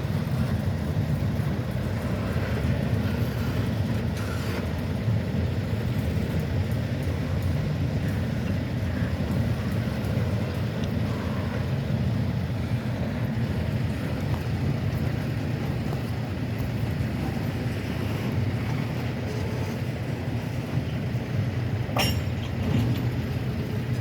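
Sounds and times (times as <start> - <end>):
diesel locomotives idling: 0.0 - 24.0.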